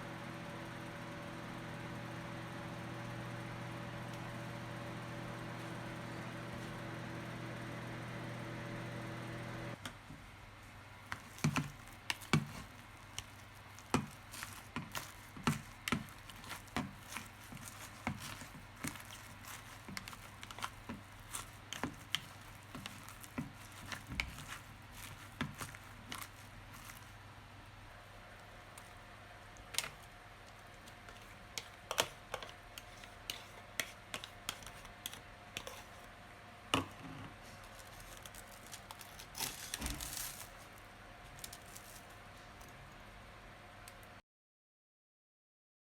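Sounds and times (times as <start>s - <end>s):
steady electric hum: 0.0s - 44.2s.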